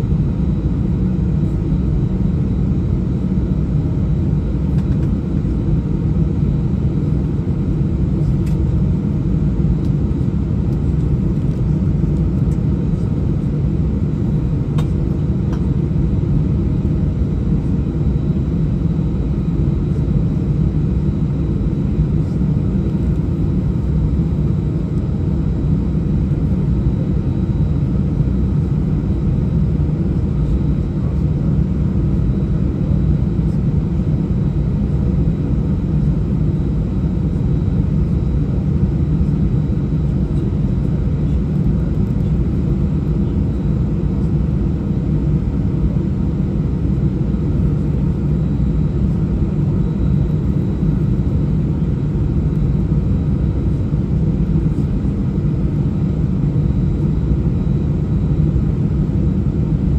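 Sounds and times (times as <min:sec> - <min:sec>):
jet engines idling while taxiing: 0:00.0 - 0:59.9.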